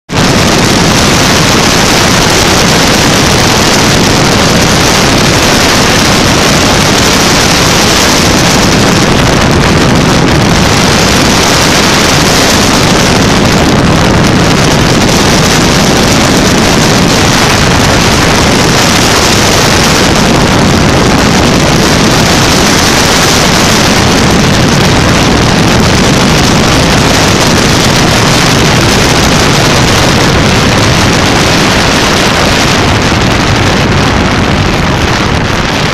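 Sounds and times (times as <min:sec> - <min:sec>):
loud wind rushing: 0:00.0 - 0:35.9
aircraft engine and propeller: 0:00.1 - 0:35.9.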